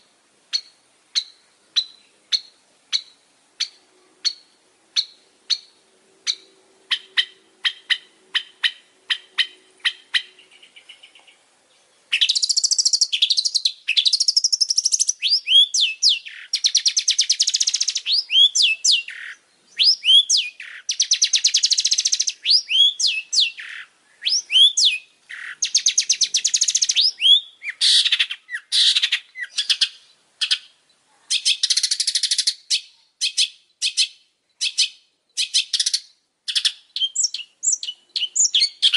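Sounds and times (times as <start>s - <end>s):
bird singing sharp calls and trills: 0.0s - 38.9s.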